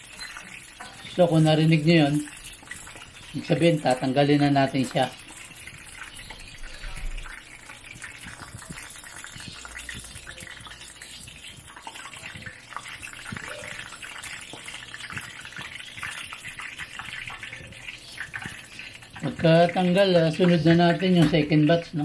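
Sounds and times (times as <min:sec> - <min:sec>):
oil sizzling and popping: 0:00.0 - 0:22.0.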